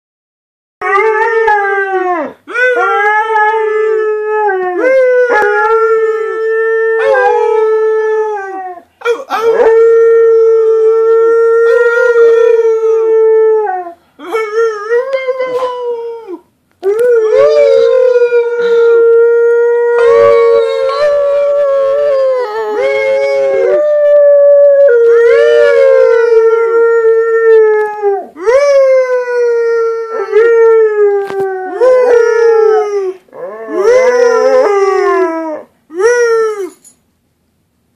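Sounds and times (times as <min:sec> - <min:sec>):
dog howling: 0:00.8 - 0:36.8.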